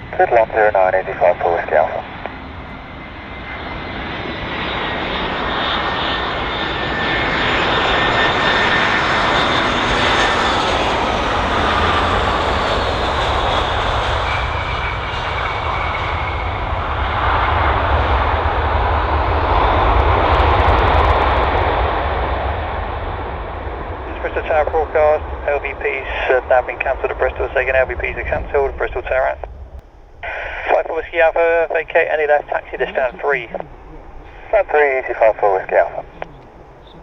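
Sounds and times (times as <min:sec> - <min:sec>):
airliner engine noise: 0:00.0 - 0:37.0
jet engine whine: 0:00.0 - 0:37.0.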